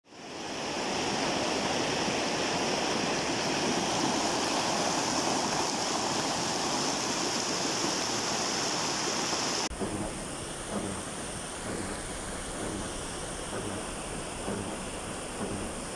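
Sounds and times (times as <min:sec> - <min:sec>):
floodwater rushing: 0:00.0 - 0:15.9.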